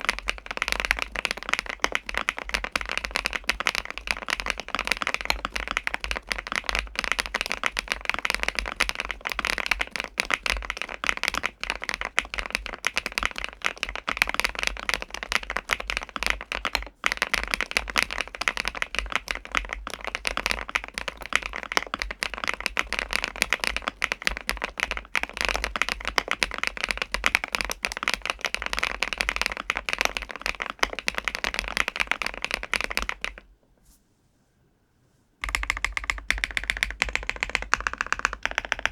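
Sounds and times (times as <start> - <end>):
fast typing on mechanical keyboard: 0.0 - 33.4, 35.4 - 38.9.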